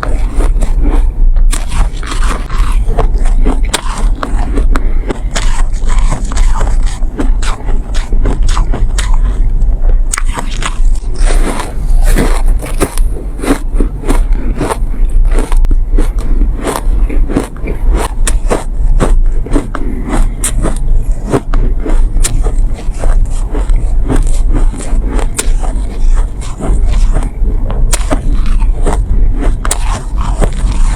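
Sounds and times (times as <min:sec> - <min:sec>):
biting and chewing ice: 0:00.0 - 0:30.9.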